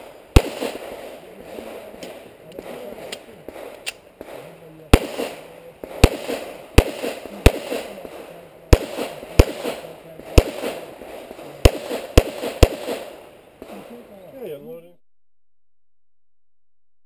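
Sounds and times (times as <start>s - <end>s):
revolver gunshots with echo: 0.0s - 14.0s.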